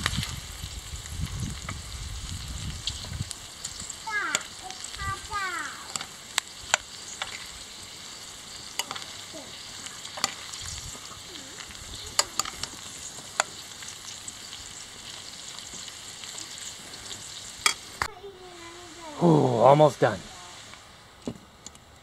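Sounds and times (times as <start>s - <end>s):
vegetables and meat frying: 0.0s - 22.0s.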